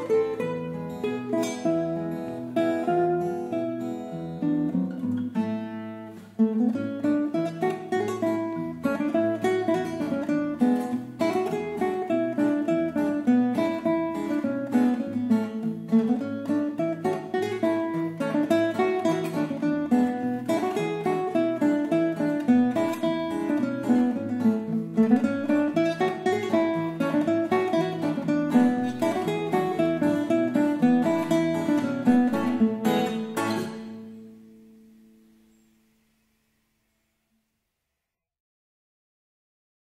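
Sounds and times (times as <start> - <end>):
guitar duet: 0.0 - 36.9.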